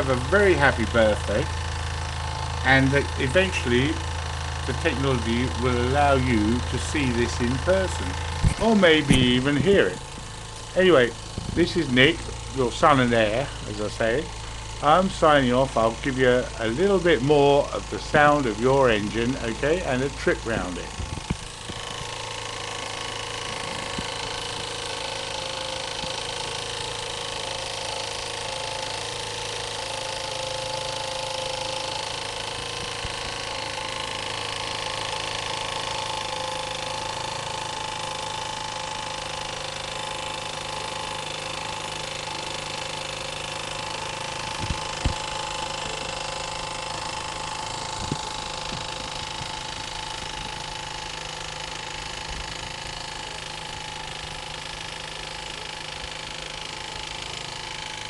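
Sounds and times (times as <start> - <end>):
model steam engine running: 0.0 - 58.0.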